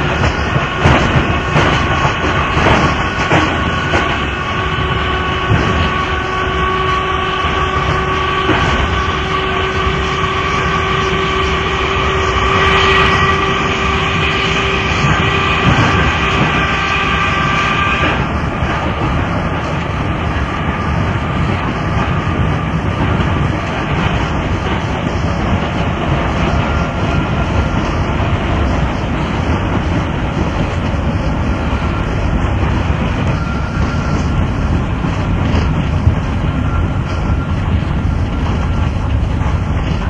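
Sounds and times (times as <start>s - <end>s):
electric train running: 0.0s - 40.0s.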